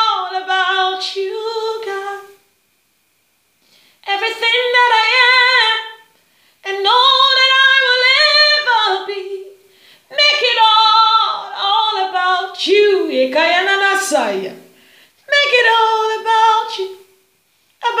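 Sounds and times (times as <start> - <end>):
woman singing unaccompanied: 0.0 - 2.5, 4.0 - 17.2, 17.8 - 18.0.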